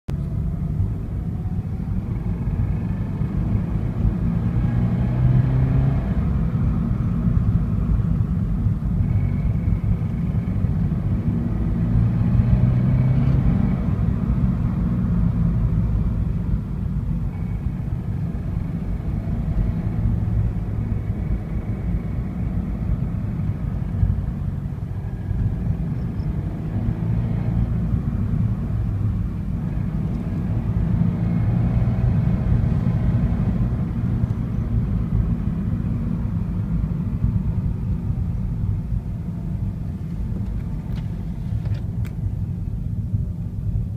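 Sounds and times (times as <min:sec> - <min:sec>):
low droning engine rumble: 0:00.1 - 0:43.9.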